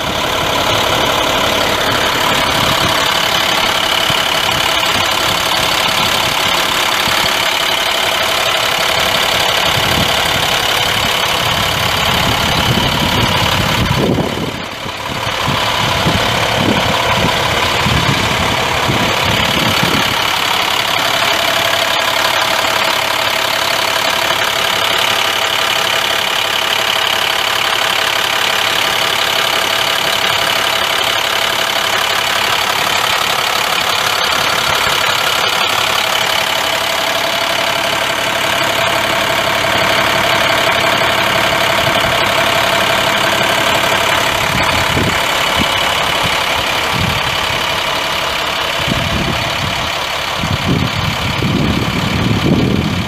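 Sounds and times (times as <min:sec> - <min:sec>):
diesel truck engine idling: 0:00.0 - 0:53.0
steady whine: 0:00.0 - 0:53.0.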